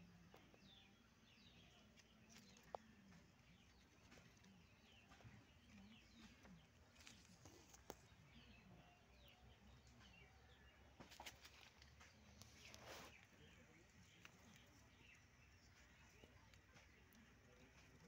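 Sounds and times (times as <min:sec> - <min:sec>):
faint bird chirping: 0:00.0 - 0:18.0.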